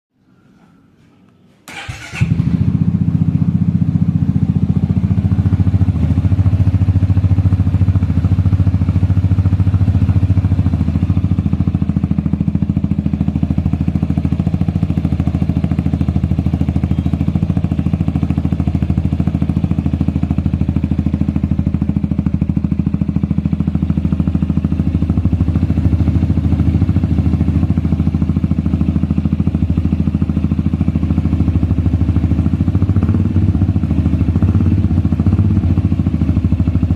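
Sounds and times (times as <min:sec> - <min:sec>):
scooter engine idling: 0:01.6 - 0:36.9.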